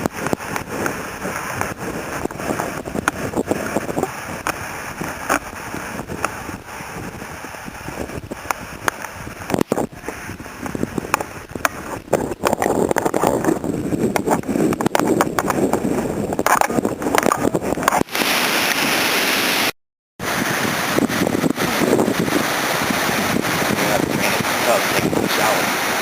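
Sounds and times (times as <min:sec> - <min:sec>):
wind buffeting microphone: 0:00.0 - 0:19.0, 0:20.2 - 0:26.0.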